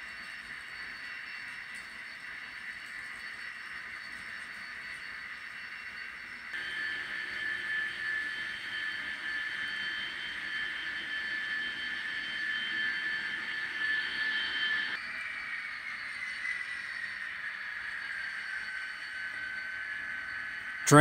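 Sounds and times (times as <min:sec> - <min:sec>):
model train motor whine: 0:00.0 - 0:21.0.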